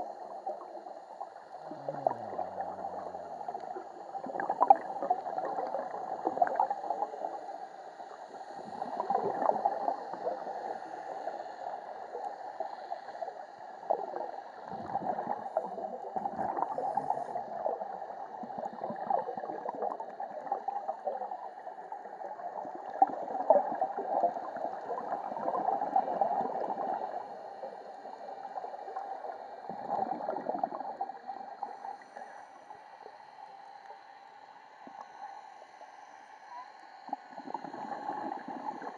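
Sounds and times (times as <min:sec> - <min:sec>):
underwater bubbles gurgling: 0:00.0 - 0:34.0, 0:36.6 - 0:38.9.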